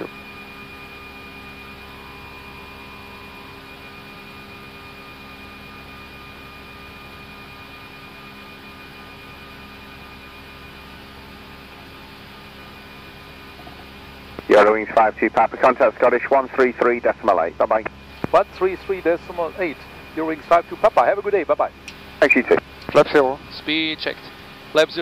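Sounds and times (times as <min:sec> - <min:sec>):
aircraft cockpit hum: 0:00.0 - 0:25.0.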